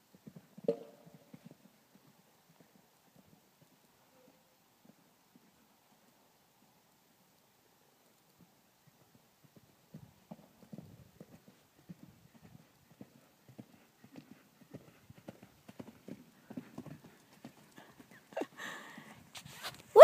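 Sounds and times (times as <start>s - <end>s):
horse hoofbeats on dirt: 0.0s - 6.2s, 8.3s - 19.6s.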